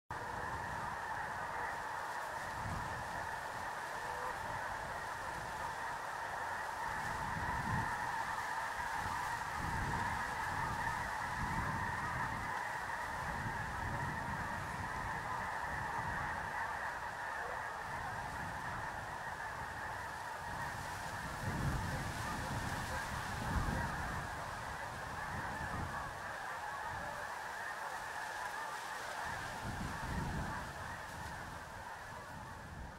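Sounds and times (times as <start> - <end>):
snow geese honking: 0.1 - 32.9.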